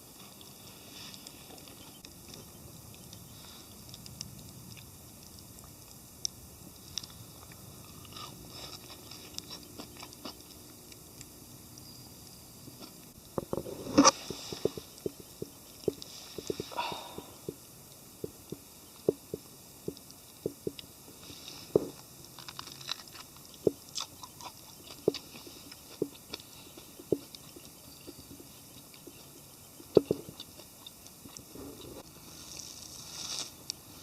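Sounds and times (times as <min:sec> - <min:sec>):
campfire wood crackling: 0:00.0 - 0:34.0
faint hiss: 0:00.0 - 0:34.0.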